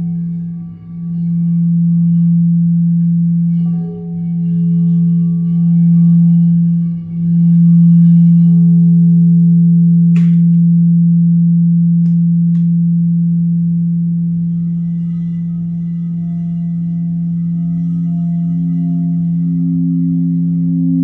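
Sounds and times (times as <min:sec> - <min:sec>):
low ringing tone: 0:00.0 - 0:21.0.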